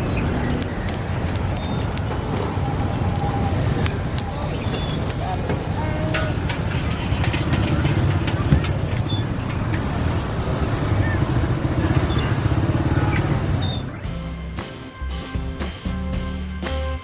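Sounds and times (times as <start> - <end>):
engine rumbling: 0.0 - 17.0
street noise: 0.0 - 17.0.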